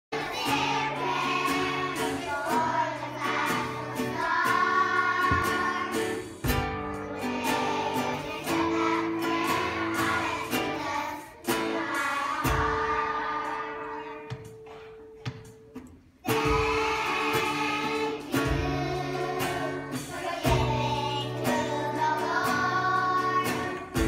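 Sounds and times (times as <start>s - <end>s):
children's choir singing: 0.1s - 15.4s, 16.2s - 24.0s
acoustic guitar: 0.1s - 24.0s.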